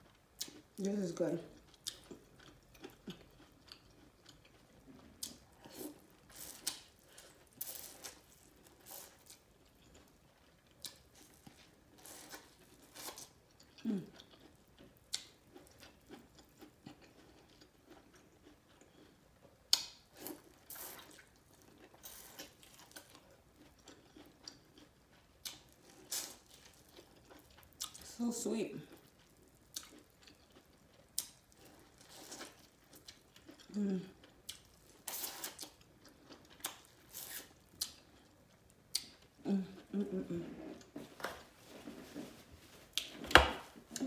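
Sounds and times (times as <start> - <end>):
wet chewing sounds: 1.5 - 28.2, 28.8 - 44.0.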